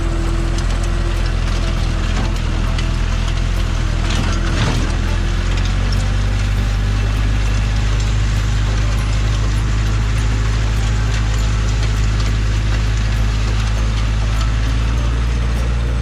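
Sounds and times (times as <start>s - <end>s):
soil scraping through tines: 0.0s - 16.0s
tractor engine running: 0.0s - 16.0s.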